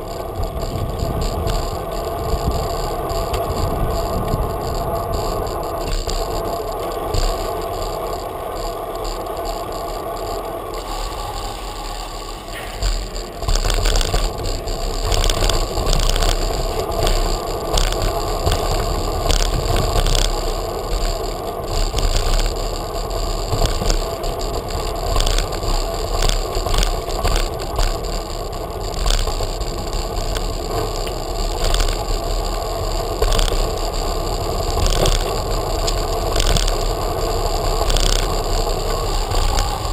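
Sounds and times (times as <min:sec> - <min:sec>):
bicycle clattering over bumps: 0:00.0 - 0:39.9
bicycle rolling over cobbles: 0:00.0 - 0:39.9.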